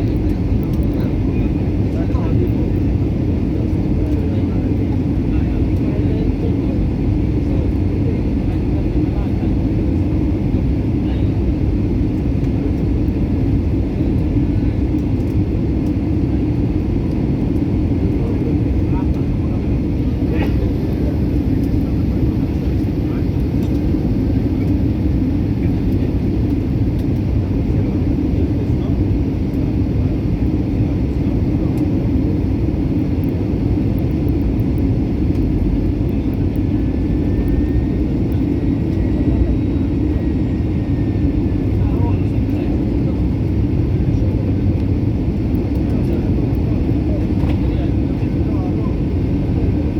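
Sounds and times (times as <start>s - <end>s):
jet engine rumble in airliner: 0.0s - 49.9s.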